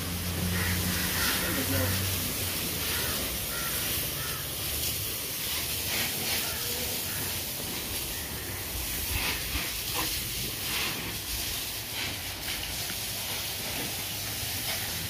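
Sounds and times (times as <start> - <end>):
hose spraying water on car: 0.0 - 15.0.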